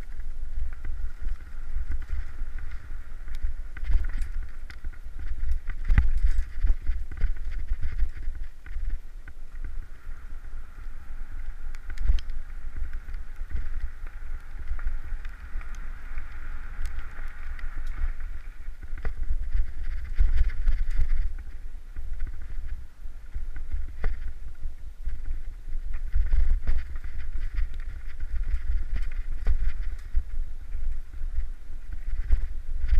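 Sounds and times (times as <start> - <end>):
bike rattling: 0.0 - 32.9
wind rumble on microphone: 0.0 - 32.9.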